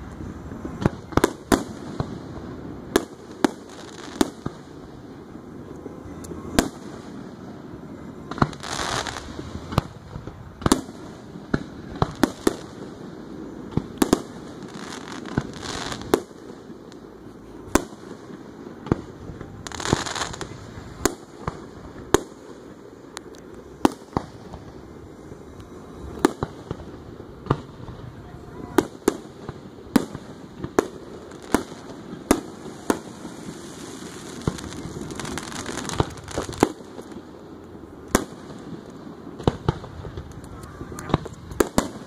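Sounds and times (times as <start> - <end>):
rushing firework noise: 0.0 - 42.0.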